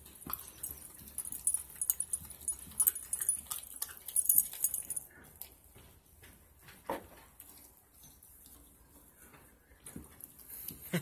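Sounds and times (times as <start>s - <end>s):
puppy gnawing a bone: 0.0s - 10.9s.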